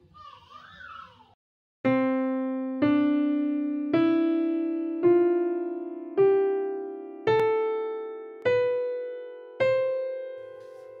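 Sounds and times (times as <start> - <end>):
keyboard notes with piano-like tone: 1.9 - 11.0.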